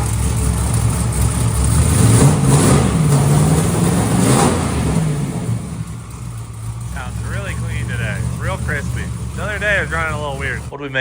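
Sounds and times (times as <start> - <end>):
truck engine idling and revving: 0.0 - 11.0.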